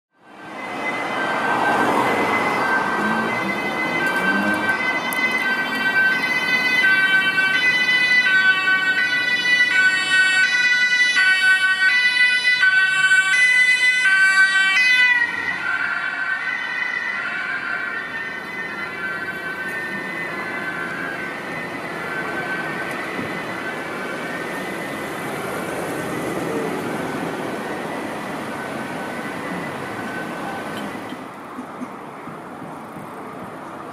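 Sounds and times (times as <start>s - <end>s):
street traffic: 0.1s - 33.9s
two-tone police siren: 0.2s - 31.4s.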